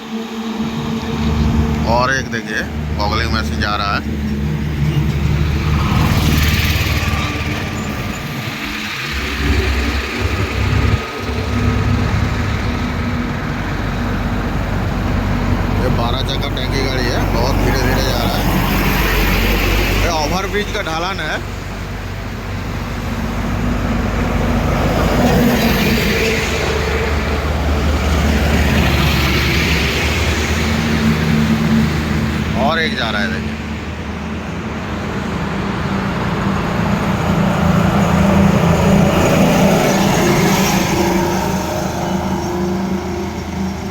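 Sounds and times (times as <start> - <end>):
highway traffic noise: 0.0 - 43.9
road noise: 0.0 - 43.9
truck diesel engine rumbling: 0.0 - 43.9.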